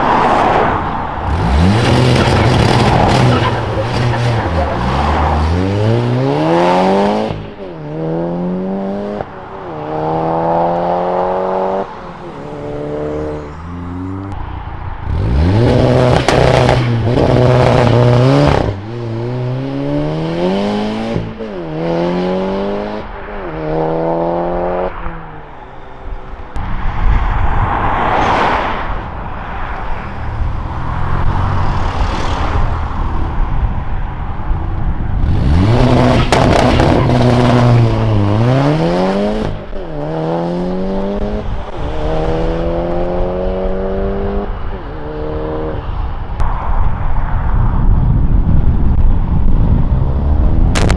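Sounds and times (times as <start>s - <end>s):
cars accelerating hard: 0.0s - 46.4s, 49.6s - 50.9s
cars rushing past: 0.0s - 50.9s.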